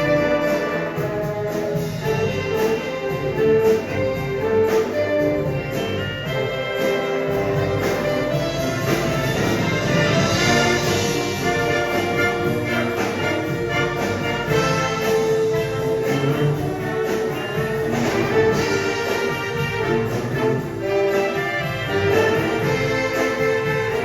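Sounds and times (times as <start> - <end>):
marching band brass melody: 0.0 - 24.0
steady drum beat: 0.0 - 24.0.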